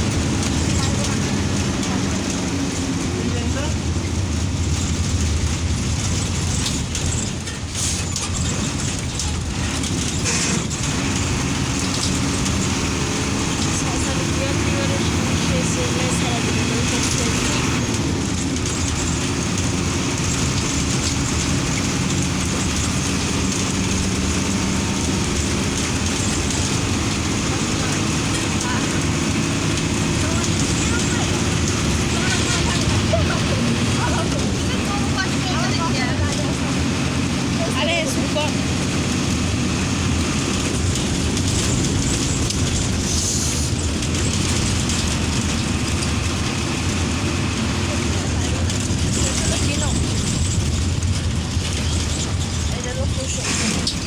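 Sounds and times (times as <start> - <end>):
bus diesel engine running: 0.0 - 54.0
road and wind noise: 0.0 - 54.0.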